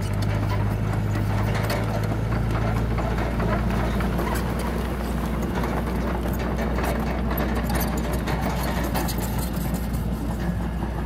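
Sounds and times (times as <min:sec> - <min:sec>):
bulldozer diesel engine running: 0:00.0 - 0:11.0
steel tracks clanking: 0:00.0 - 0:11.0.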